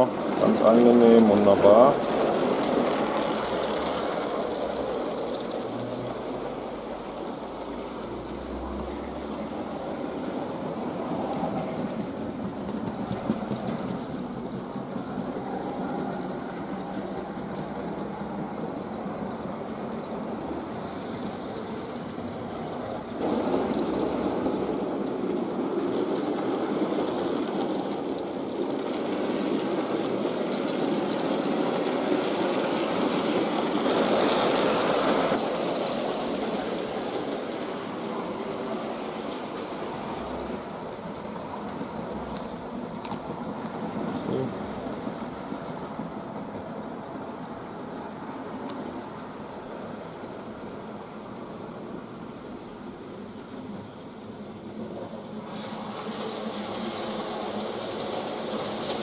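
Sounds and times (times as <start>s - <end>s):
model train motor running: 0.0s - 59.0s.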